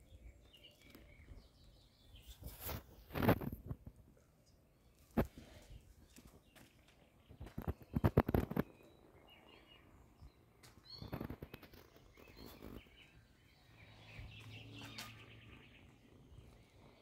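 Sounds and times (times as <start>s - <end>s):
bird chirps: 0.0s - 3.5s, 5.7s - 17.0s.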